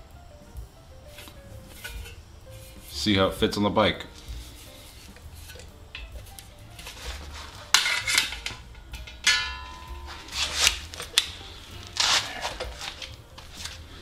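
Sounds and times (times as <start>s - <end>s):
metal fender knocks and scrapes: 1.1s - 3.0s, 4.2s - 13.6s.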